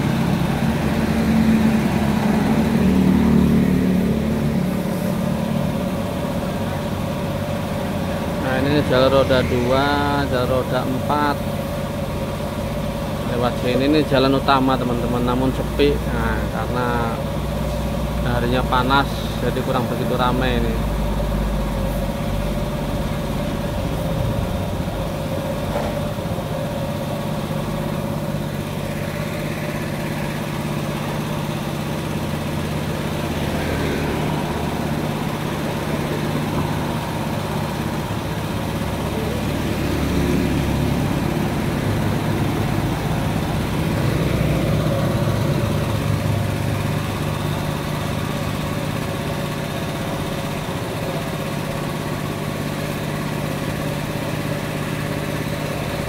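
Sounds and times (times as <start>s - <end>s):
pressure washer motor humming: 0.0s - 56.0s
vehicles passing on road: 0.0s - 56.0s.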